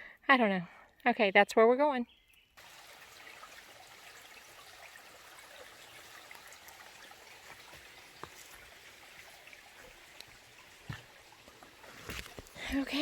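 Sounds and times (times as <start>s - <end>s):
creek trickling: 2.6s - 13.0s.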